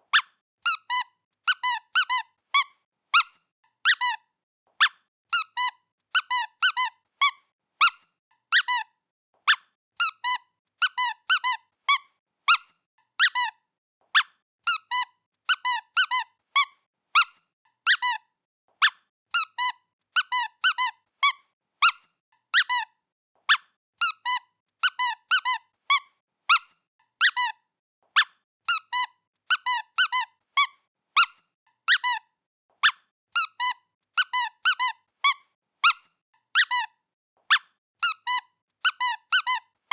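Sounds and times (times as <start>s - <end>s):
squeaky pet toy squeaking: 0.1s - 39.9s.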